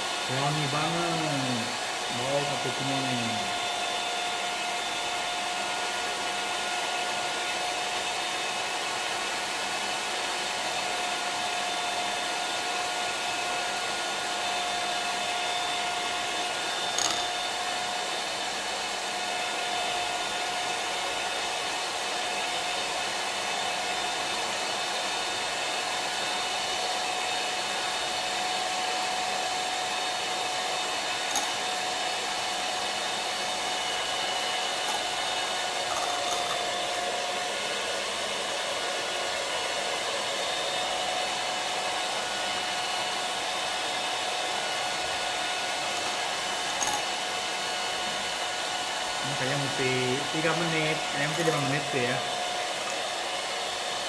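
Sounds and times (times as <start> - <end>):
electric hand mixer whine: 0.0 - 54.0.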